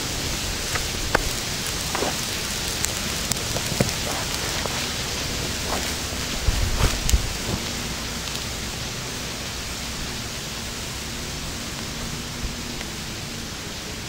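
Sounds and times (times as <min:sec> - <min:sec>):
fire crackling: 0:00.0 - 0:14.0
steady rushing flame: 0:00.0 - 0:14.0.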